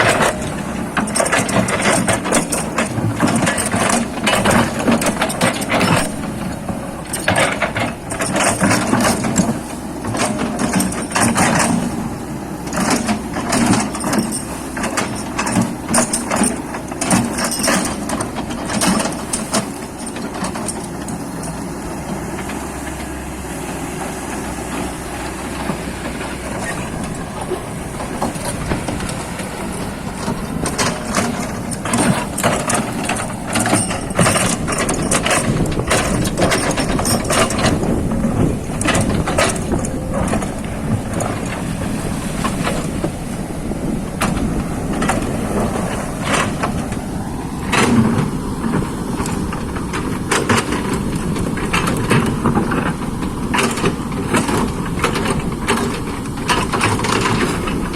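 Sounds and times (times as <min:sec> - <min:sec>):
sharp knocks and clatter: 0:00.0 - 0:21.7, 0:25.5 - 0:43.3, 0:44.2 - 0:57.9
excavator running: 0:00.0 - 0:57.9.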